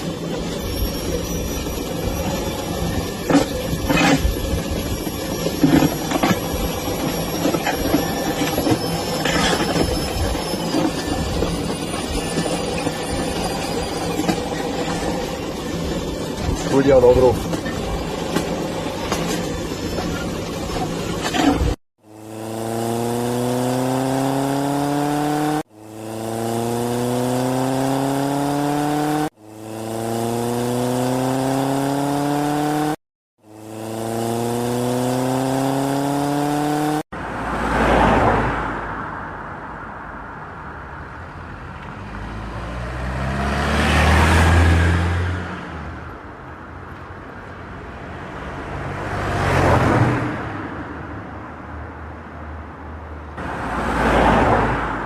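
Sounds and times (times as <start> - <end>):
engine revving: 0.0 - 38.7, 42.0 - 46.0, 53.4 - 55.0
vehicles driving past: 0.0 - 55.0.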